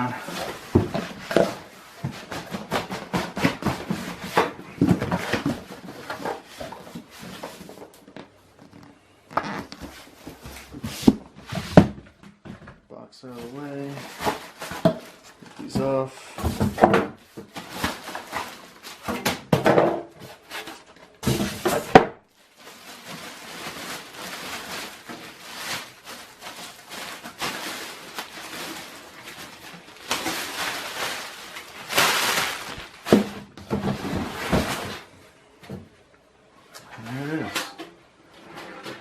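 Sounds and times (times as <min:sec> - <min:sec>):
packing rustling and scraping: 0:00.0 - 0:12.0, 0:13.4 - 0:19.3, 0:20.2 - 0:35.1.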